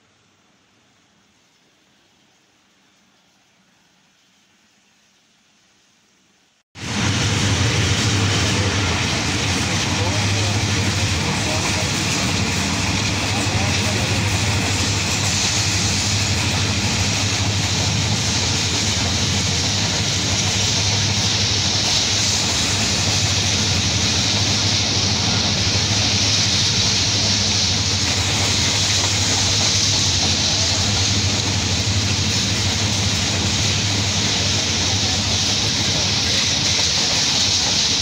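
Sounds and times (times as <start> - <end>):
train wheels rushing on rails: 6.8 - 38.0.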